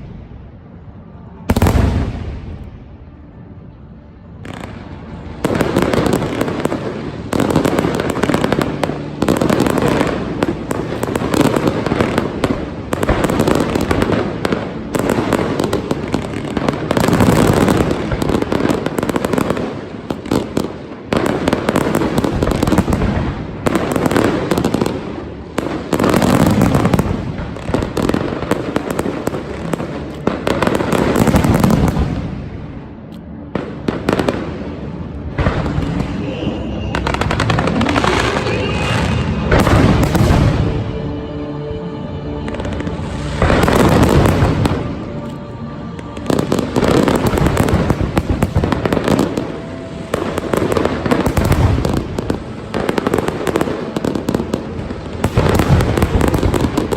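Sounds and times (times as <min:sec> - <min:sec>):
fireworks bursting: 0:00.0 - 0:03.0, 0:04.3 - 0:41.2, 0:42.3 - 0:56.9.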